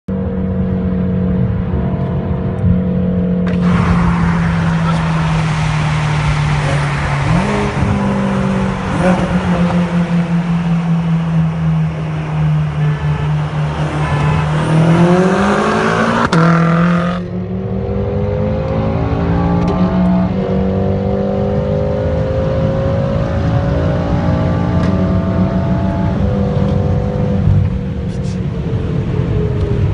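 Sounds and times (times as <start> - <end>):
wind and road noise: 0.1 - 29.9
car engine revving hard: 3.5 - 27.5.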